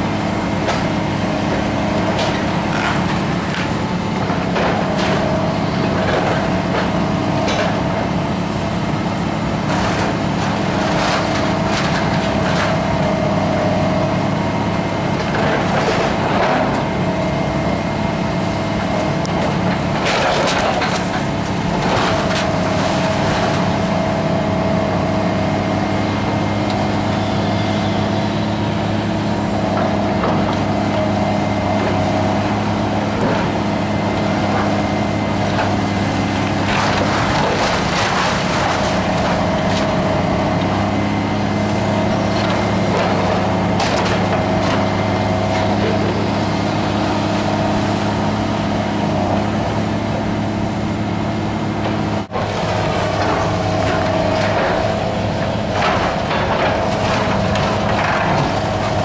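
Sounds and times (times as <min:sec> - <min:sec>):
excavator diesel engine running: 0:00.0 - 0:59.0
demolition debris crunching: 0:00.1 - 0:59.0.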